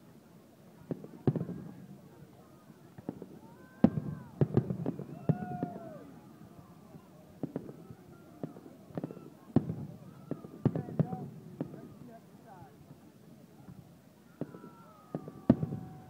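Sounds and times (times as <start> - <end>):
fireworks bangs and crackles: 0.6 - 16.0.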